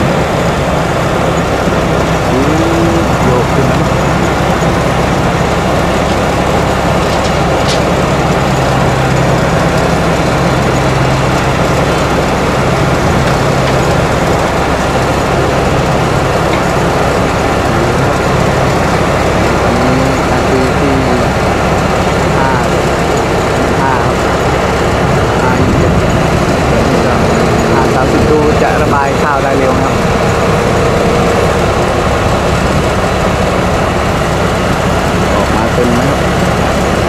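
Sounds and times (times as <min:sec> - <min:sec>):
combine harvester engine hum: 0:00.0 - 0:37.0.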